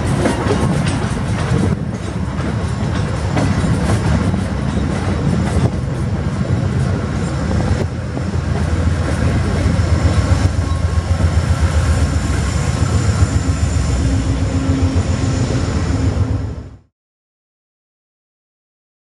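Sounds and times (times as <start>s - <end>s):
train coaches clacking over rails: 0.0s - 16.2s
diesel locomotive engine drone: 0.0s - 16.9s.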